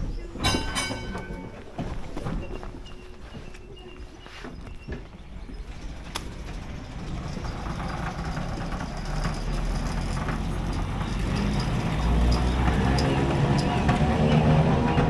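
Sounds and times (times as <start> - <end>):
heavy vehicle rumble: 0.0 - 15.0.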